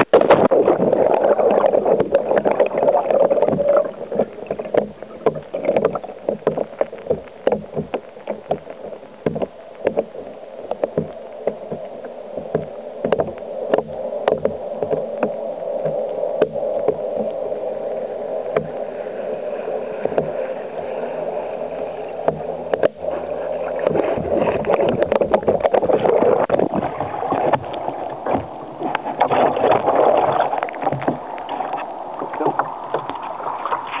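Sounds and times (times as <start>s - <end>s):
hull knocking on water: 0.0s - 17.4s, 18.5s - 18.8s, 20.0s - 20.4s, 22.2s - 34.0s.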